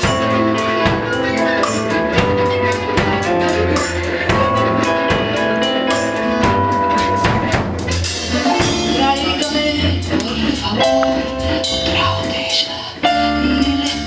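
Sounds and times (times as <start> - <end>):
bass line: 0.0 - 14.0
drum kit beat: 0.0 - 14.0
electric guitars sustained notes: 0.0 - 14.0.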